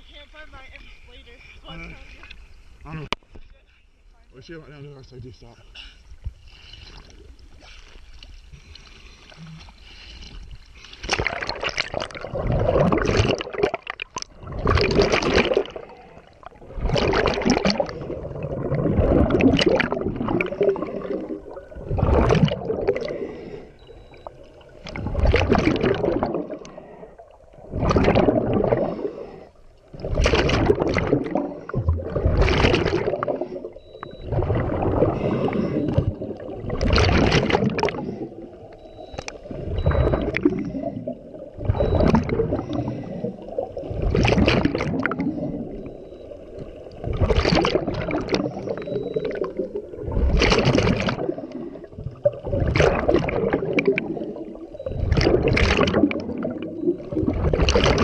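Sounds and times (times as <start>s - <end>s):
faint water sound: 0.0s - 58.0s
underwater exhaust bubbles: 6.2s - 58.0s.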